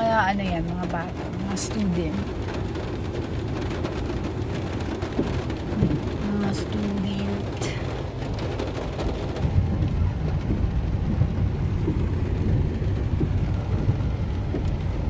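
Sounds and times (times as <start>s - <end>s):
car low rumble: 0.0s - 15.0s
heavy rain on car roof: 0.0s - 15.0s.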